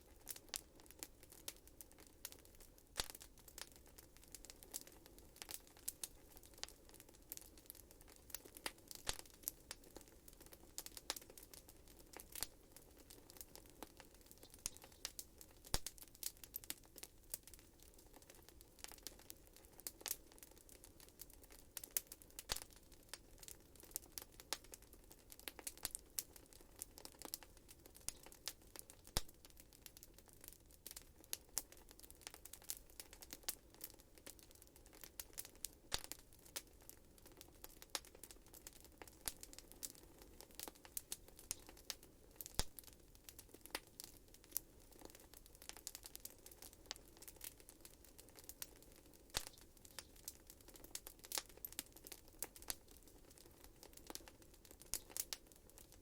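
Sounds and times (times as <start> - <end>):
faint steady hiss: 0.0 - 56.0
wood fire crackling: 0.0 - 56.0.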